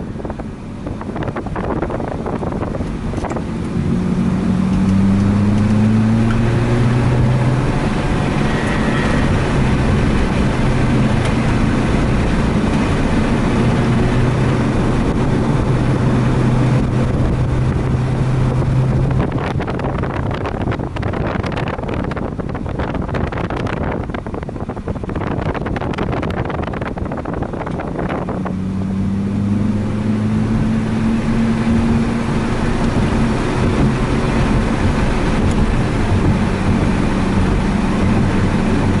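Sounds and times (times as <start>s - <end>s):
rotary engine running hard: 0.0s - 39.0s
wind buffeting microphone: 0.0s - 39.0s.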